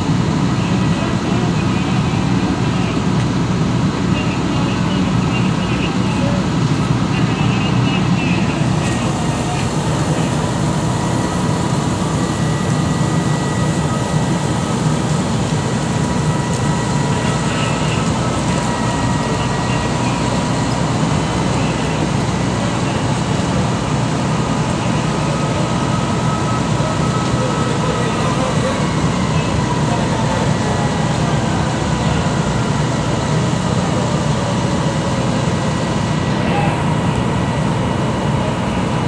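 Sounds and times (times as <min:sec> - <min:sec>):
diesel engines running: 0:00.0 - 0:39.0
thin steady whine: 0:00.0 - 0:39.0.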